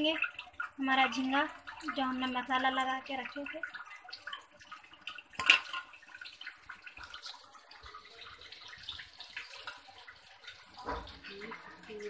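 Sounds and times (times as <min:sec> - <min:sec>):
prawns deep-frying in oil: 0:00.0 - 0:12.0.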